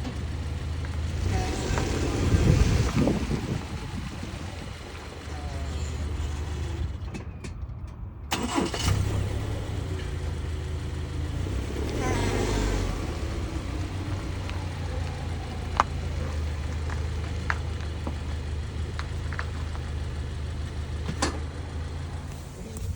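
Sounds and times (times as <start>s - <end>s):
car engine hum: 0.0s - 22.9s.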